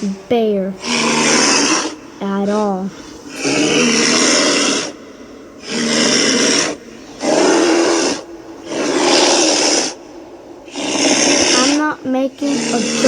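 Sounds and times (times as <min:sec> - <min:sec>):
bear growling: 0:00.0 - 0:13.0.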